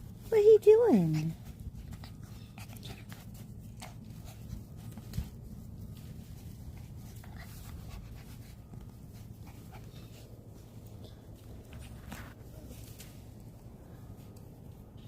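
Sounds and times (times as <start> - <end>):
puppies moving about: 0.0 - 15.0
steady low rumble: 0.0 - 15.0.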